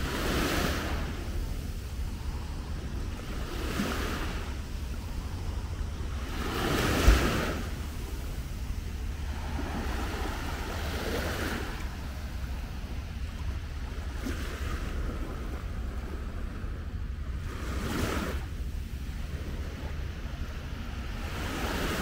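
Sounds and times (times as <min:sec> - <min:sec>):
small waves breaking on beach: 0:00.0 - 0:22.0
wind rumble on microphone: 0:00.0 - 0:22.0.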